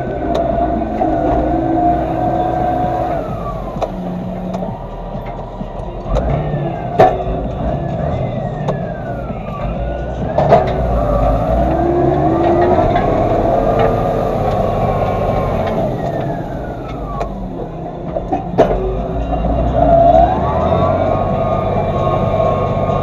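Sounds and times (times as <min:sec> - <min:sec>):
tractor running under load: 0:00.0 - 0:23.0
whine rising and falling: 0:00.0 - 0:23.0.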